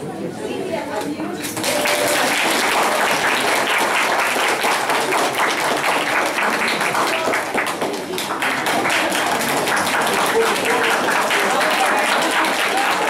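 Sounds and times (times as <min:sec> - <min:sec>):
audience applauding: 0:01.5 - 0:13.0.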